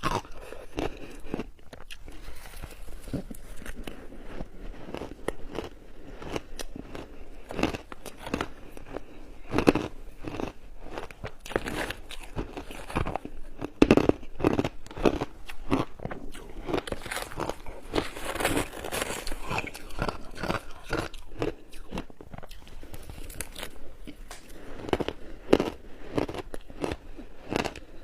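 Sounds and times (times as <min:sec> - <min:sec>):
shaved ice being chewed: 0:00.0 - 0:28.0.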